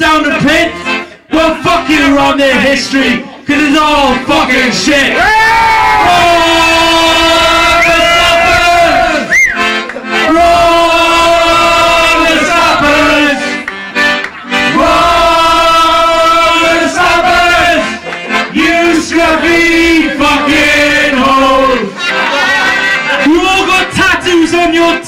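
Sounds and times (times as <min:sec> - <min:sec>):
reedy instrumental melody: 0:00.0 - 0:05.1, 0:06.0 - 0:25.0.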